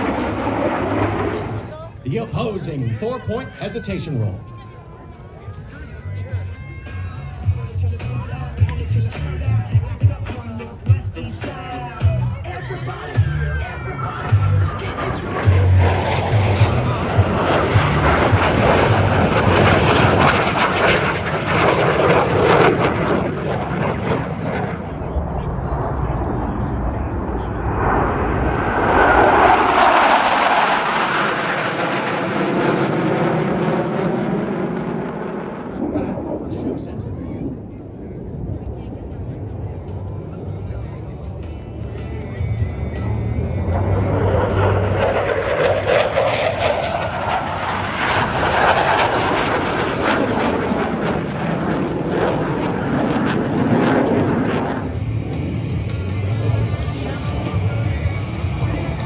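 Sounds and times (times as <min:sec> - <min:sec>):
jets roaring past: 0:00.0 - 0:59.0.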